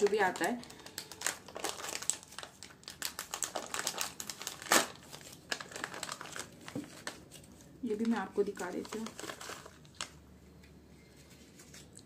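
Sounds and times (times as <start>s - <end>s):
plastic snack packet crinkling: 0.0s - 10.2s.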